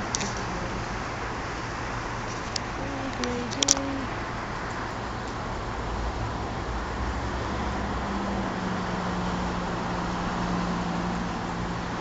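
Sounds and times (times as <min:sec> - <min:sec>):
low engine hum: 0:00.0 - 0:12.0
vehicle road noise: 0:00.0 - 0:12.0.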